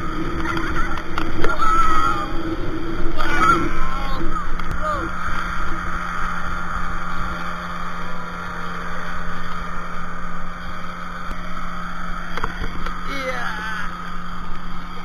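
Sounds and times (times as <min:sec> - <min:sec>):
motorboat engine drone: 0:00.0 - 0:15.0
water rushing and splashing: 0:00.0 - 0:15.0.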